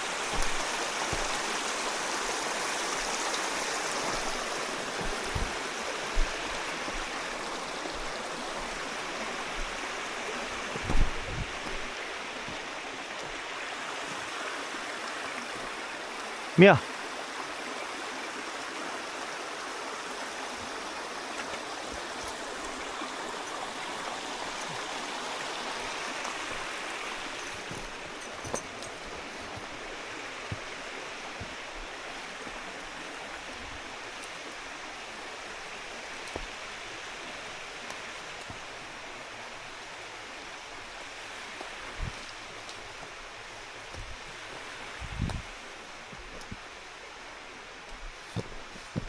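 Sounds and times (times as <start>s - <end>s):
forest stream rushing: 0.0s - 49.0s.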